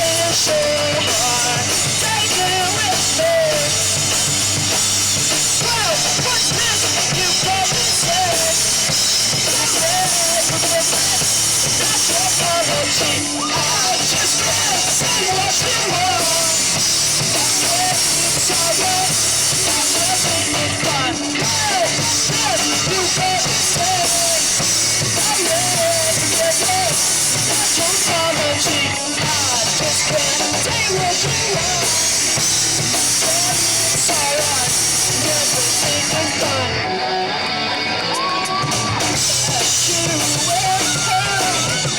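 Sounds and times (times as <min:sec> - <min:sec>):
drum kit pounding: 0:00.0 - 0:36.9, 0:38.2 - 0:41.9
live rock band playing: 0:00.0 - 0:41.9.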